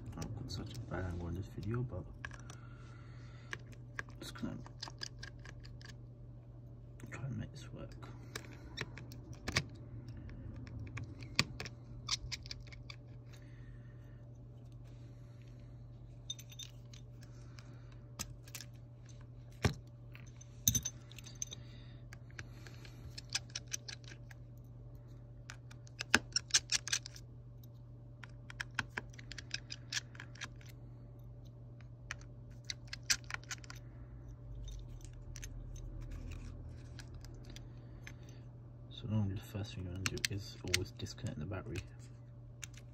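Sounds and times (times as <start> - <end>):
low hum: 0.0 - 42.9.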